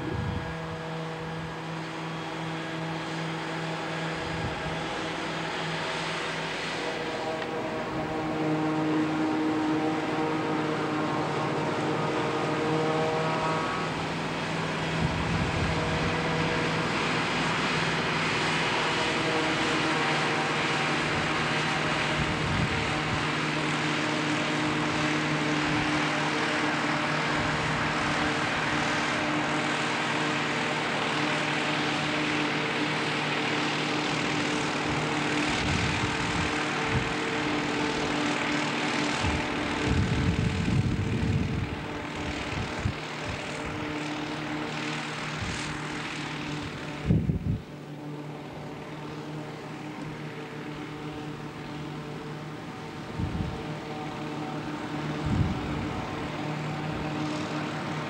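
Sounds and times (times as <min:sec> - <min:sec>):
chopper hissing: 0:00.0 - 0:48.0
machine engine drone: 0:00.0 - 0:58.0.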